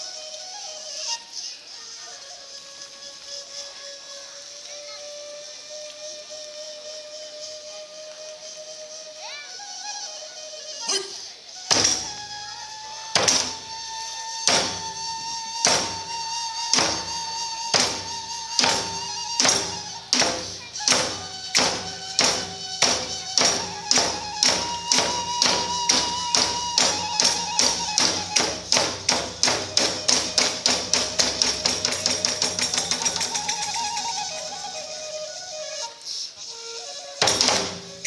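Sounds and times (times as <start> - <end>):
drum and hand cymbals beat: 0.0 - 38.0
high flute melody: 0.0 - 38.0.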